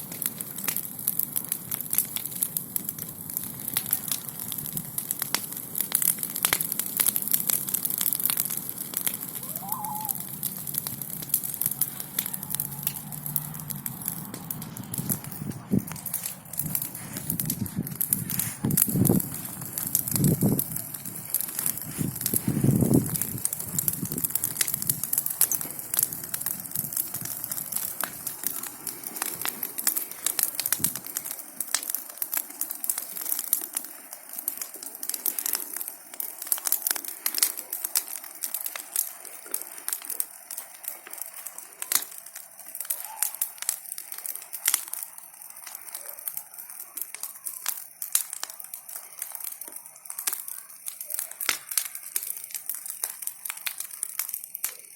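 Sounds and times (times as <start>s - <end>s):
bonfire crackling and popping: 0.0s - 54.9s.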